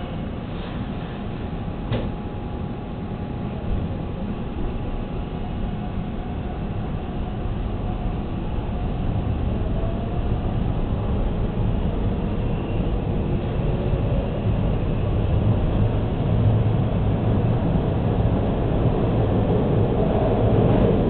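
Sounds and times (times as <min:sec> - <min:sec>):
subway train rumbling in tunnel: 0:00.0 - 0:21.0.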